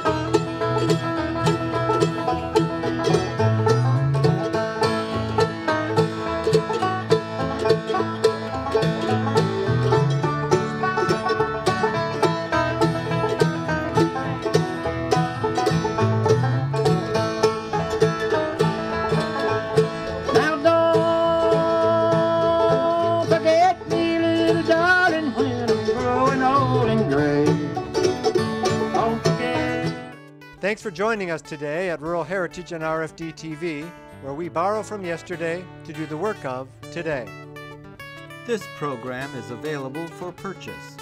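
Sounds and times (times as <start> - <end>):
acoustic guitar: 0.0 - 41.0
banjo: 0.0 - 41.0
mandolin: 0.0 - 41.0
upright bass: 0.0 - 41.0.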